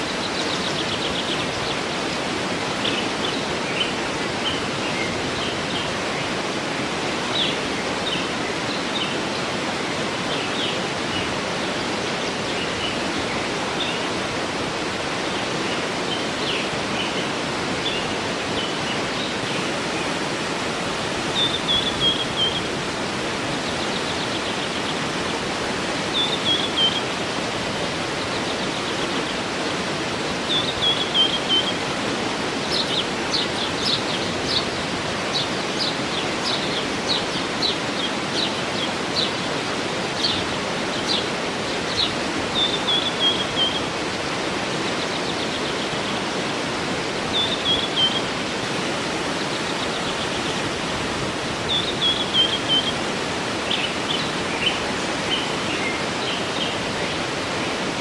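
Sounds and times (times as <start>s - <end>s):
birds singing: 0.0s - 58.0s
waterfall rushing: 0.0s - 58.0s.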